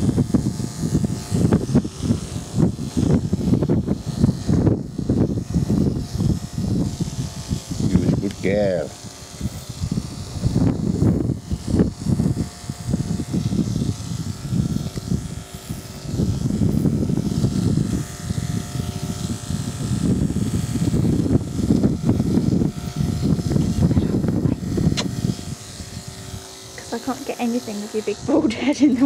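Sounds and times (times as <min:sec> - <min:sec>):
electric dog clipper buzzing: 0:00.0 - 0:29.0.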